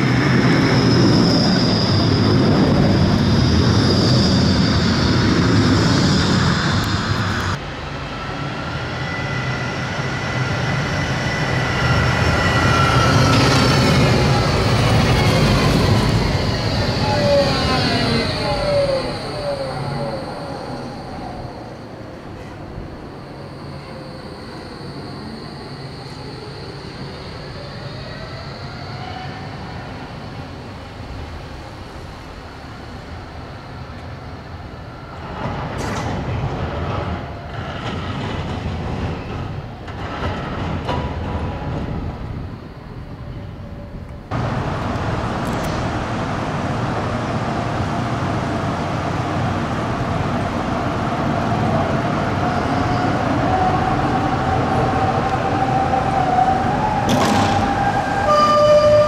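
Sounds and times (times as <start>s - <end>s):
street and rail noise: 0.0s - 59.0s
tram humming: 0.0s - 59.0s
tram rumble: 0.0s - 59.0s.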